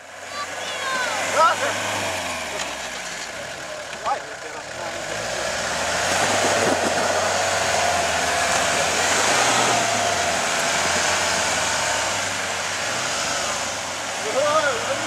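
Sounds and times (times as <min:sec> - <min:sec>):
engine at high revs: 0:00.0 - 0:15.0.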